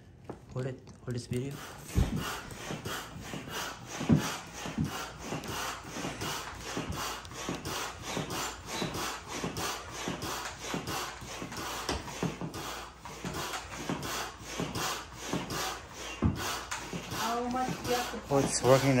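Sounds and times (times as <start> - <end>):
hand pump rushing air: 1.2 - 19.0.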